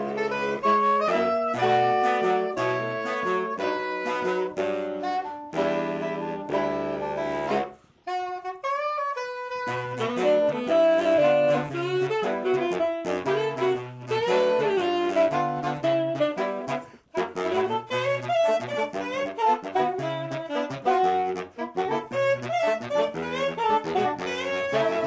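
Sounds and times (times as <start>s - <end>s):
saxophone quartet playing: 0.0s - 25.0s.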